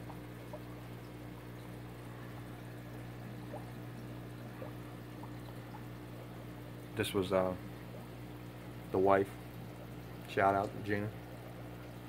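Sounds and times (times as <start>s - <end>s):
aquarium filters bubbling: 0.0s - 12.0s
faint water trickle: 0.0s - 12.0s
low steady hum: 0.0s - 12.0s.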